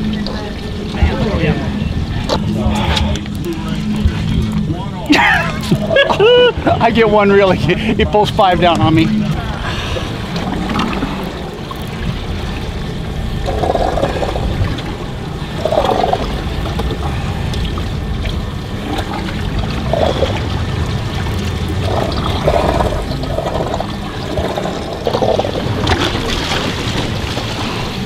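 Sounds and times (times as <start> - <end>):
low rumble: 0.0 - 28.0
water splashing against boat hull: 0.0 - 28.0.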